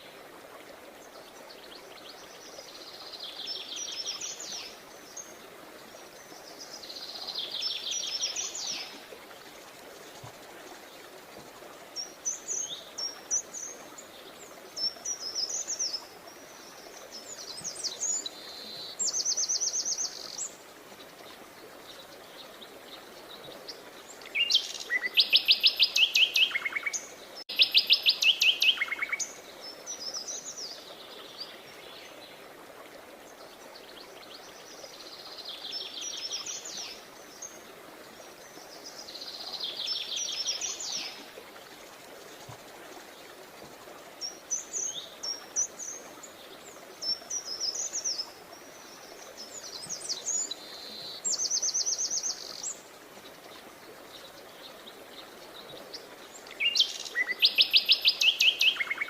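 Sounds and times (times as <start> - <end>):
songbirds chirping and trilling: 10.9 - 59.0.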